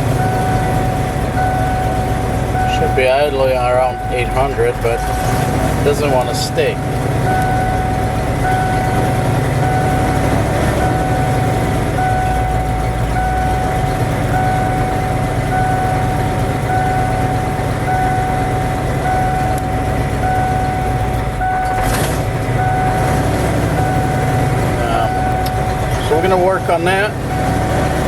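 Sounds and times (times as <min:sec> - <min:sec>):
steady electronic beep: 0:00.0 - 0:28.0
truck engine rough idle: 0:00.0 - 0:28.0.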